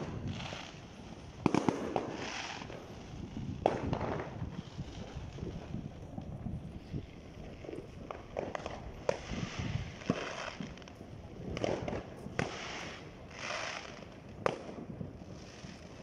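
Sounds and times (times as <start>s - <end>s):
crackling hiss: 0.0s - 16.0s.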